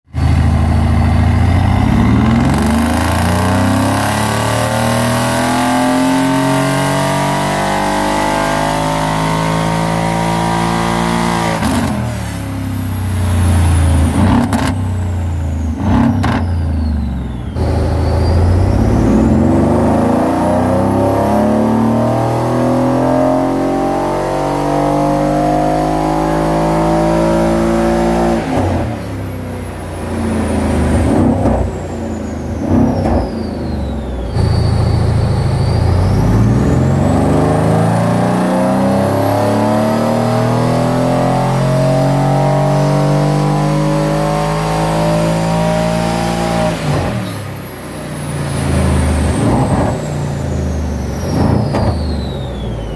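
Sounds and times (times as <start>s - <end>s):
car engine accelerating hard: 0.1s - 52.9s.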